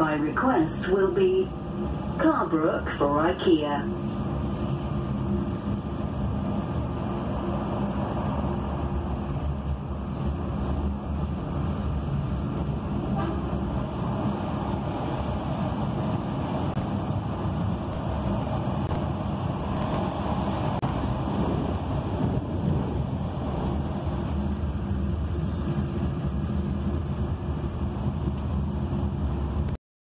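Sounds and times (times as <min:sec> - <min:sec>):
tram rumbling on rails: 0:00.0 - 0:29.8.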